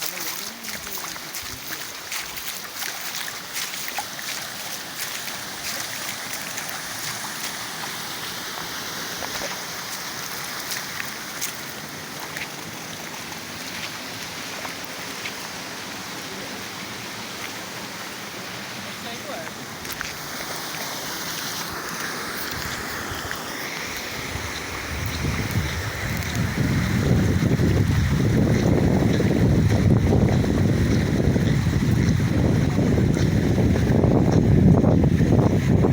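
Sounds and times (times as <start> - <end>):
floodwater rushing: 0.0 - 35.9.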